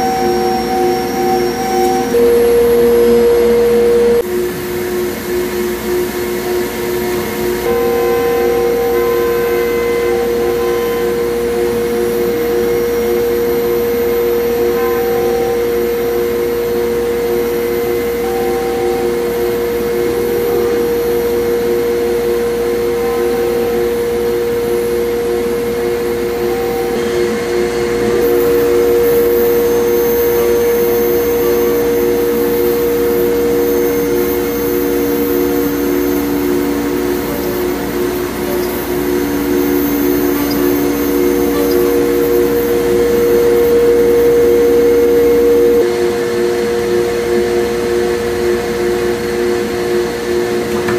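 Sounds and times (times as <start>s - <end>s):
lower machine tone: 0.0s - 50.9s
router spindle whine: 0.0s - 50.9s.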